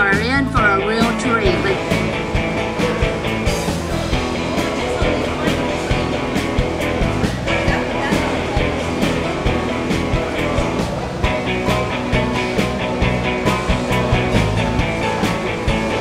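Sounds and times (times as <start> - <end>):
rock and blues band music: 0.0 - 16.0
steady drum beat: 0.0 - 16.0.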